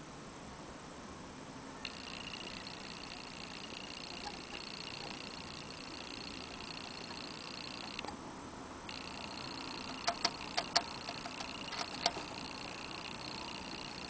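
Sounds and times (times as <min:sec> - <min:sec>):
water bottle sipper ticking: 0:01.9 - 0:08.2, 0:08.9 - 0:14.0.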